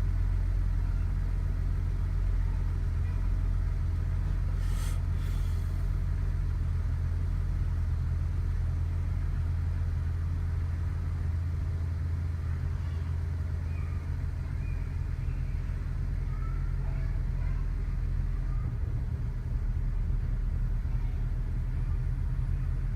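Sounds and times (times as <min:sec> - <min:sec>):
car engine idling roughly: 0:00.0 - 0:22.9.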